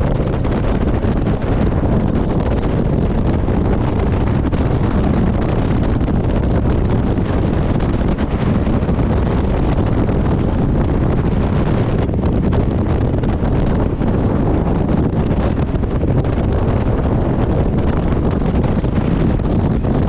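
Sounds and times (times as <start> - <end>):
boat engine: 0.0 - 20.0
rushing water: 0.0 - 20.0
wind buffeting microphone: 0.0 - 20.0.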